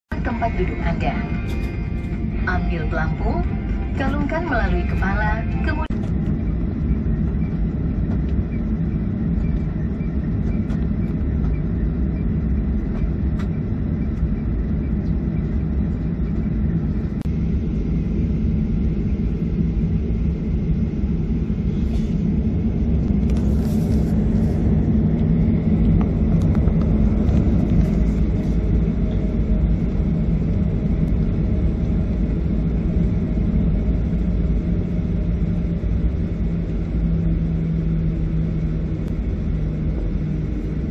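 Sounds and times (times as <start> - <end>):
jet engines low rumble: 0.0 - 40.9.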